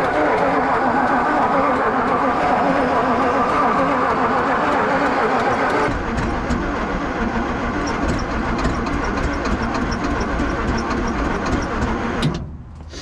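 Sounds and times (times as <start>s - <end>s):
engine cranking on starter: 0.0s - 13.0s.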